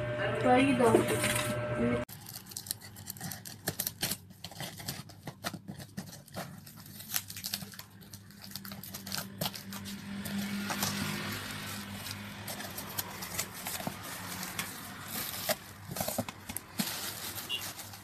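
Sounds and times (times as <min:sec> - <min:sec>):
cardboard handling: 0:02.1 - 0:18.0.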